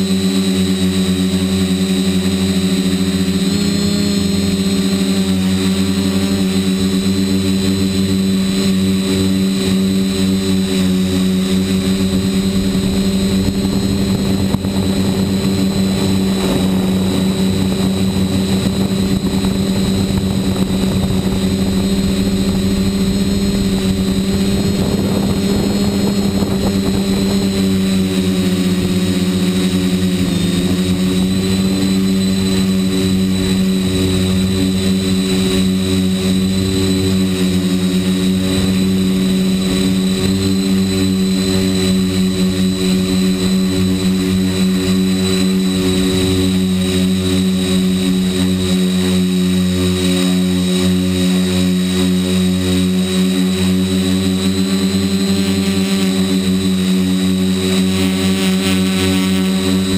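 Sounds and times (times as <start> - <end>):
quadcopter propellers humming: 0.0 - 59.9.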